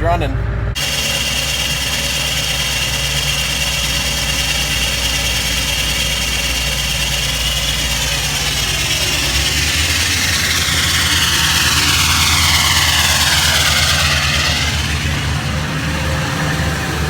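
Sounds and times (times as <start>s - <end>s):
high whine: 0.0s - 17.0s
diesel engine idling: 0.2s - 17.0s.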